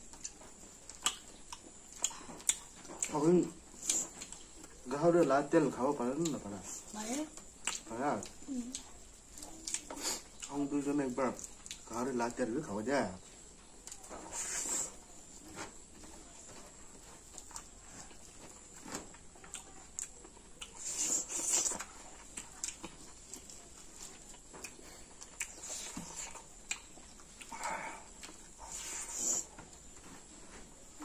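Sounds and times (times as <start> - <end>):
wet chewing and lip-smacking: 0.0 - 5.4, 6.1 - 12.0, 13.3 - 31.0.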